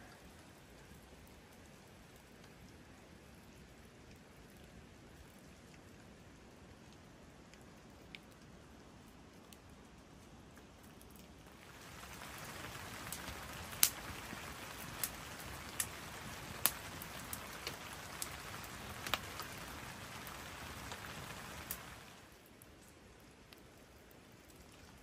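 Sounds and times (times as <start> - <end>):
large raindrops ticking: 0.0 - 25.0
steady rain hiss: 0.0 - 25.0.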